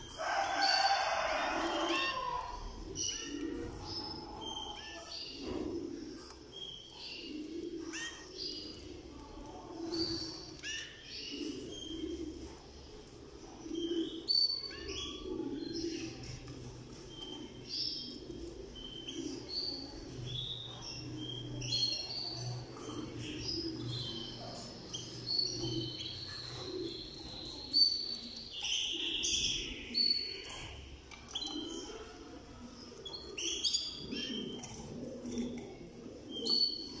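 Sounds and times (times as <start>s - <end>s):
canaries chirping: 0.0s - 37.0s.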